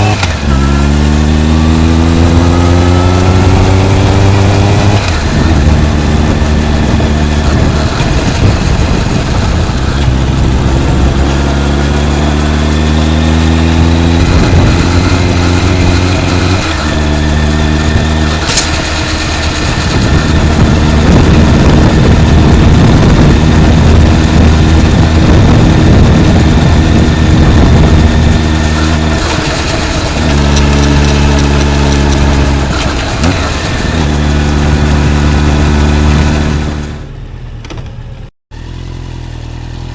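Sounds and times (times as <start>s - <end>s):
wind noise on microphone: 0.0s - 37.0s
motorcycle exhaust note: 0.0s - 39.9s.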